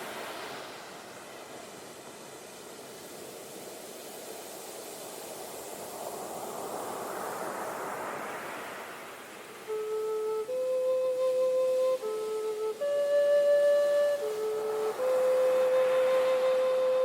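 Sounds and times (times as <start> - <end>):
ocean wave washing: 0.0 - 17.0.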